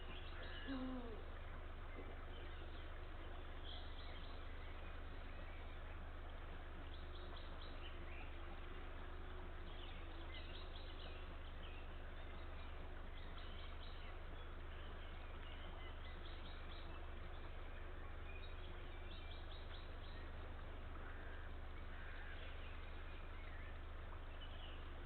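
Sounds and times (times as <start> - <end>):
low hum: 0.0 - 25.0
small birds chirping: 0.0 - 25.0.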